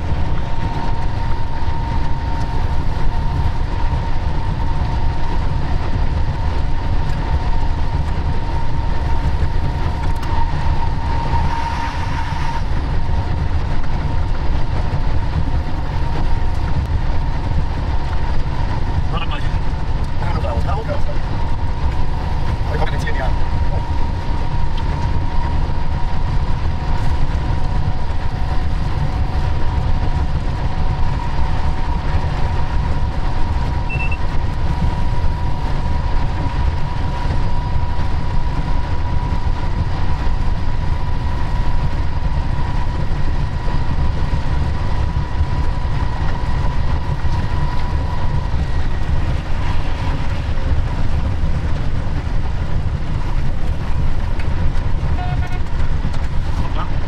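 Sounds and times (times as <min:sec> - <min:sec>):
locomotive engine and wheels rumbling: 0:00.0 - 0:57.0
thin whine: 0:00.0 - 0:57.0.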